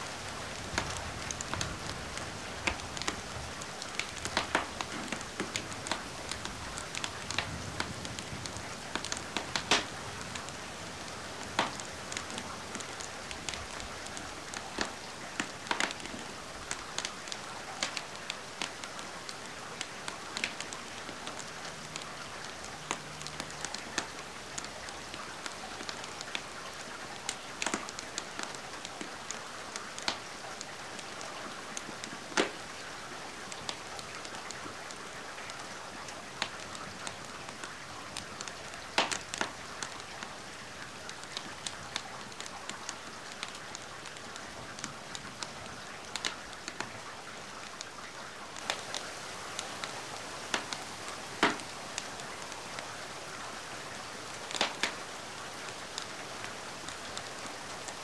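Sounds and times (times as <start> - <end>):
fire crackling: 0.0 - 47.9, 48.6 - 58.0
steady rain: 0.0 - 58.0.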